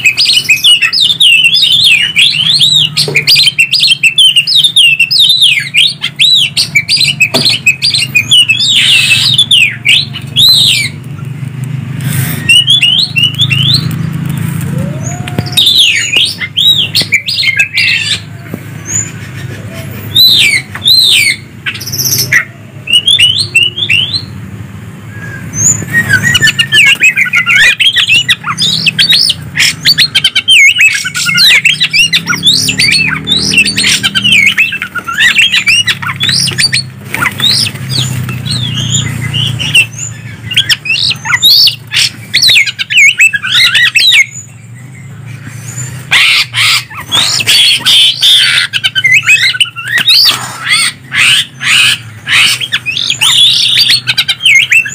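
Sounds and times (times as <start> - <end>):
birds singing varied whistles: 0.0 - 54.9
harsh bird notes and clicks: 0.0 - 54.9.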